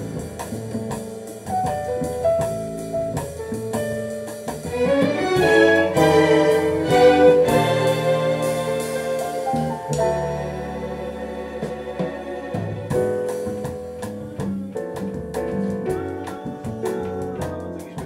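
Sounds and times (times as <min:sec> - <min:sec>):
orchestra playing jazz: 0:00.0 - 0:18.0.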